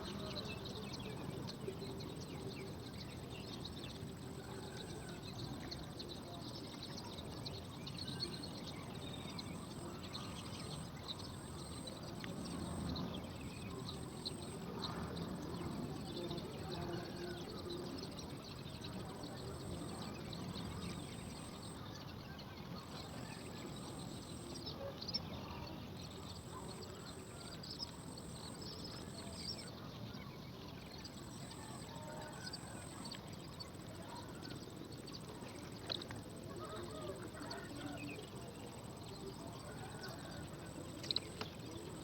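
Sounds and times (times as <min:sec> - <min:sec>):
low background murmur: 0:00.0 - 0:42.0.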